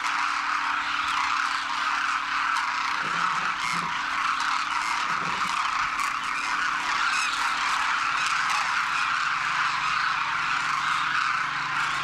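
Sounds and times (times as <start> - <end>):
flock of cranes calling: 0.0 - 12.0.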